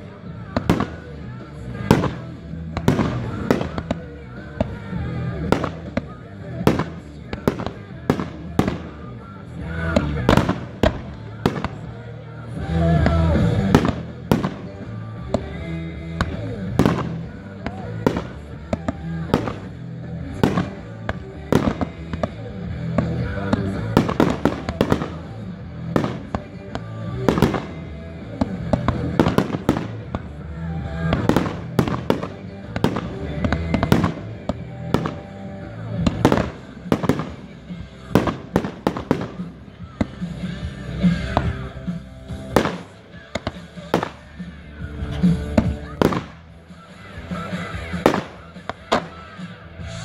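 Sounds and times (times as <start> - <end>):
fireworks crackle: 0.0 - 12.0, 12.6 - 50.0
fireworks bangs: 0.2 - 12.0, 12.7 - 50.0.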